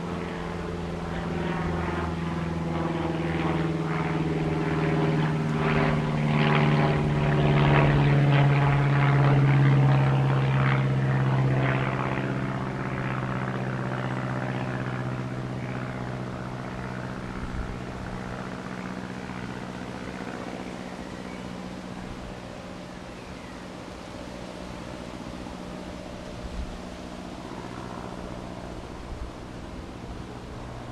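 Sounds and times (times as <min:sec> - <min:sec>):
propeller airplane engine: 0:00.0 - 0:30.9.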